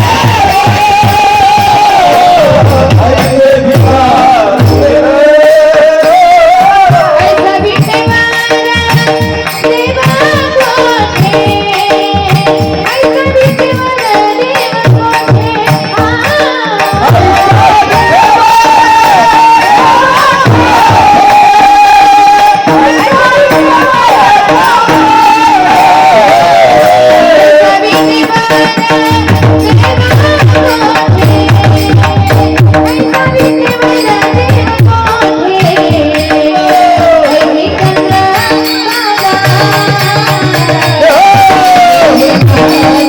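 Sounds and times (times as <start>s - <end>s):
hand drum rhythm: 0.0s - 43.0s
women singing devotional song: 0.0s - 43.0s.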